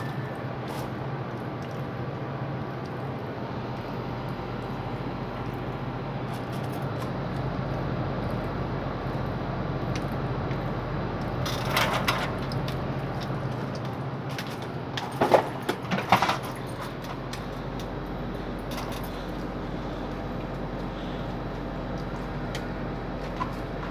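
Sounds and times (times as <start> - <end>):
air conditioner unit humming: 0.0 - 23.9.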